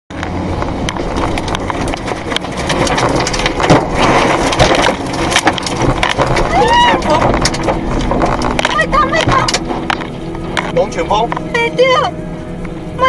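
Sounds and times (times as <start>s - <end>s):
sharp knocks and cracks: 0.1s - 10.8s
wind and rain rushing: 0.1s - 13.0s
deep thunder rumble: 0.3s - 13.0s.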